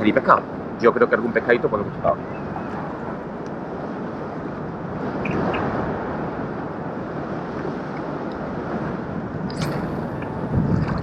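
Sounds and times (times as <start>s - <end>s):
water rushing along kayak: 0.0s - 11.0s
wind on microphone: 0.0s - 11.0s.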